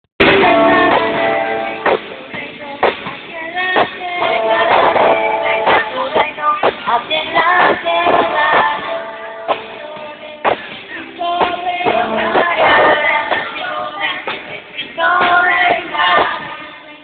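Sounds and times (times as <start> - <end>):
group singing worship song: 0.4 - 17.0
sharp beats: 2.8 - 16.5.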